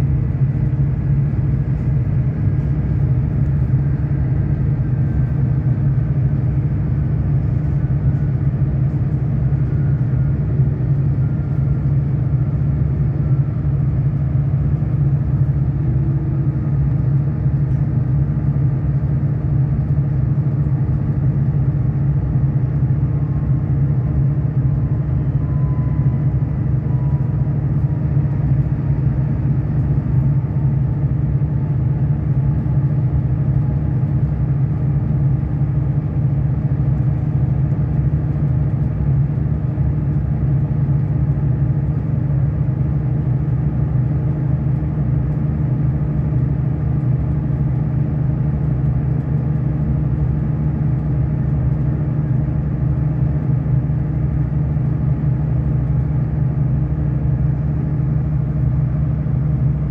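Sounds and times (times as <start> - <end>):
train diesel engine drone: 0.0 - 59.9.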